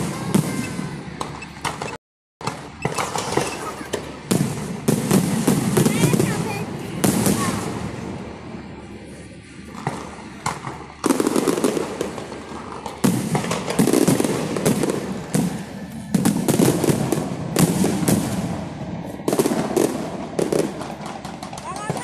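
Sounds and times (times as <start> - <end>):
fireworks bursting with loud bangs: 0.0 - 22.0.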